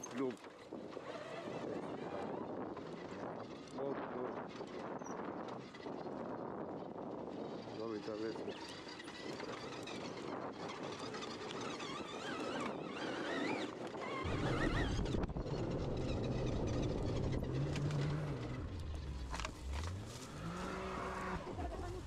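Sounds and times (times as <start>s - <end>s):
electric motor and drivetrain: 0.0s - 22.0s.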